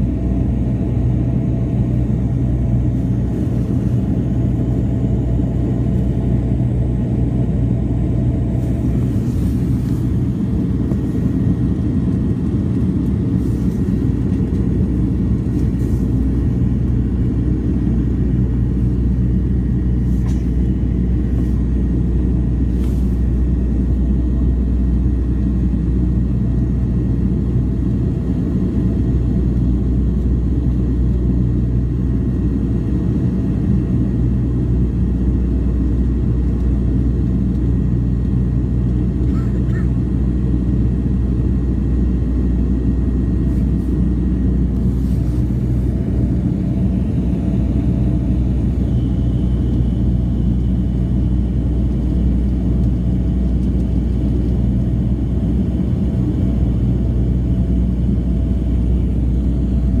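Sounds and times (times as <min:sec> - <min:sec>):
turboprop engine drone in cabin: 0:00.0 - 1:00.0.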